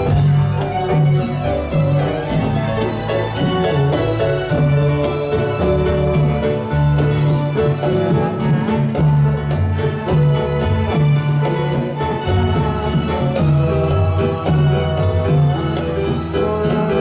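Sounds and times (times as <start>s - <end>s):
electronic keyboard melody: 0.0s - 17.0s
steady percussion beat: 0.0s - 17.0s.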